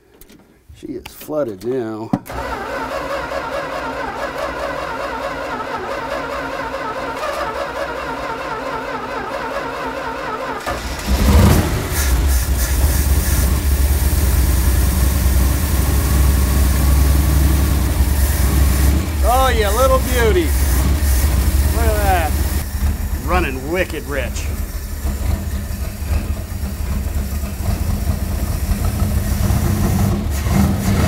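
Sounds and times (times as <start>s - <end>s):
engine cranking and starting: 2.3s - 31.0s.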